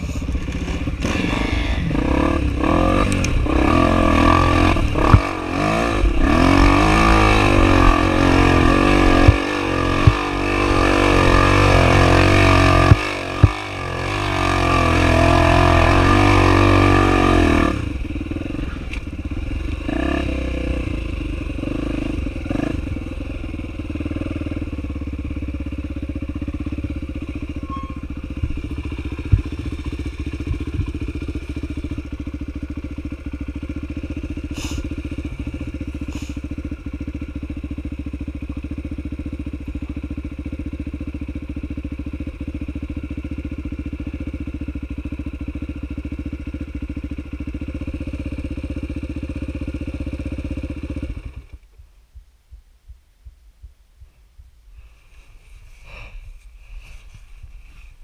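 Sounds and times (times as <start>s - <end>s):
dirt bike engine idling: 0.0s - 58.0s.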